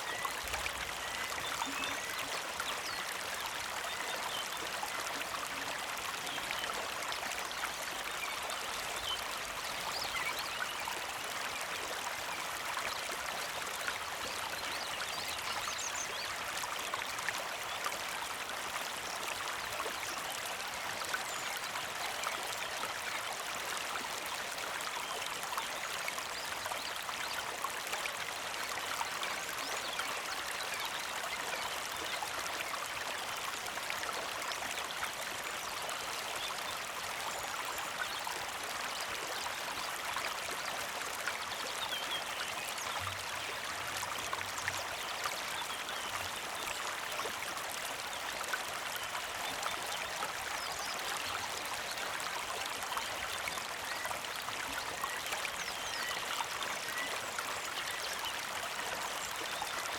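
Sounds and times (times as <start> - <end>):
creek flowing and trickling: 0.0 - 59.9.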